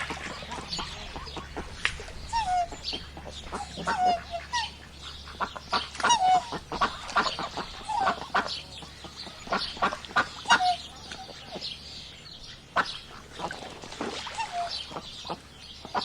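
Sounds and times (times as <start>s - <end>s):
fowl calling: 0.0s - 16.0s.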